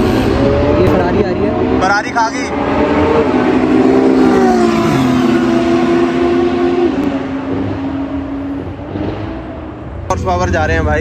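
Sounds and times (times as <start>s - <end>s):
sports cars passing at speed: 0.0s - 11.0s.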